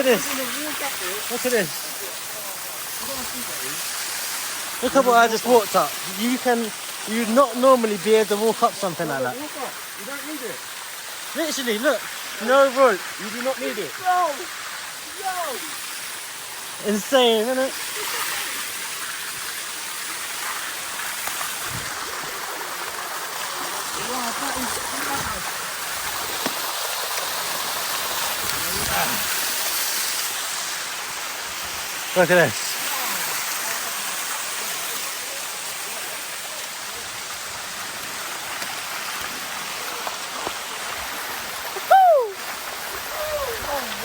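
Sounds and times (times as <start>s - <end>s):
waterfall rushing over rocks: 0.0s - 44.0s.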